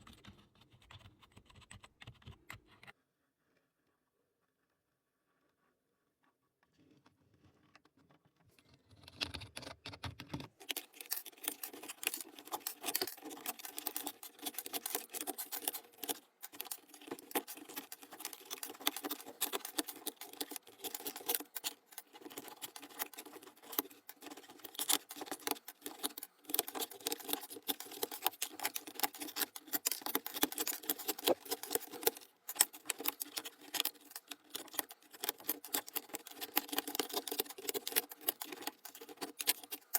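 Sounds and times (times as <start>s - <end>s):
clicking and scratching of plastic keyboard: 0.0s - 3.0s, 6.8s - 39.9s.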